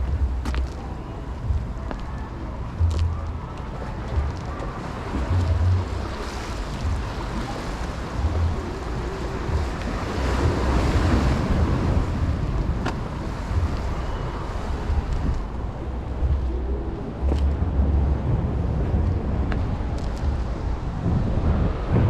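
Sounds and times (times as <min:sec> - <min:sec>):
waves washing in: 0:00.0 - 0:22.0
wind on microphone: 0:00.0 - 0:22.0.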